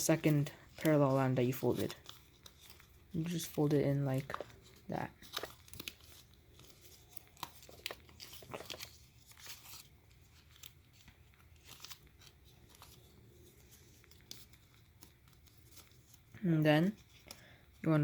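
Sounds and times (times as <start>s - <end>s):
paper being folded and creased: 0.0s - 18.0s.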